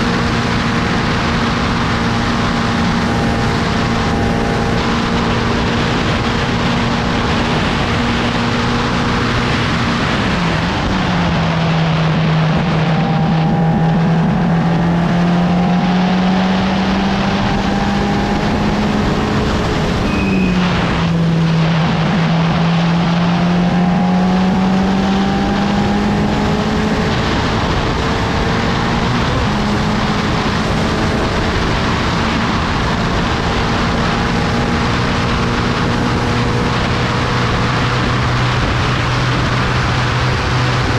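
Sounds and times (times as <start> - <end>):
racing car engine at speed: 0.0 - 40.9
wind and road noise: 0.0 - 40.9.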